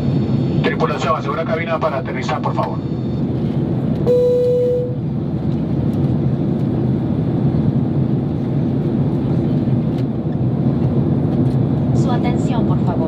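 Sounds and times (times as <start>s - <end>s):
aircraft engine and airflow noise: 0.0s - 13.0s.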